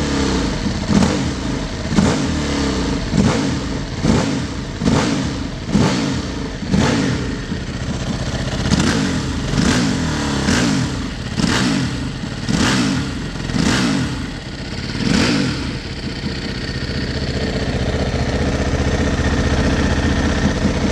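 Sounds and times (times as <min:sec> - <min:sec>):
motorcycle engine revving and idling: 0:00.0 - 0:20.9.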